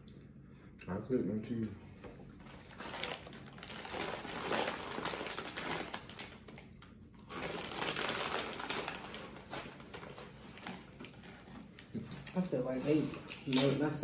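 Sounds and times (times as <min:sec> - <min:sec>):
crunchy eating noises: 0:02.2 - 0:14.0.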